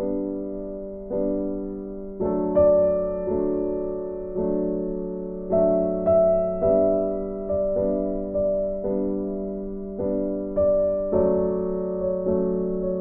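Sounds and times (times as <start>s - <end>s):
gentle piano chords: 0.0s - 13.0s.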